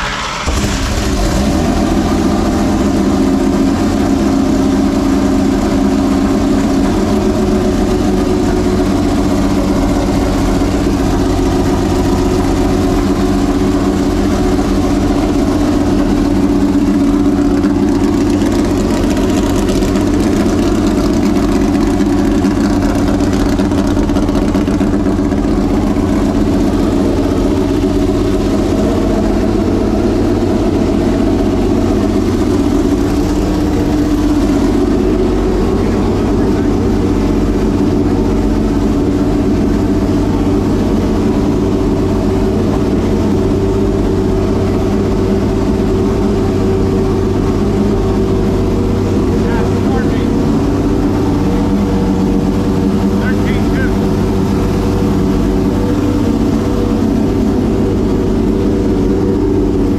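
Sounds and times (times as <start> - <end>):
race engine idling: 0.0 - 59.9.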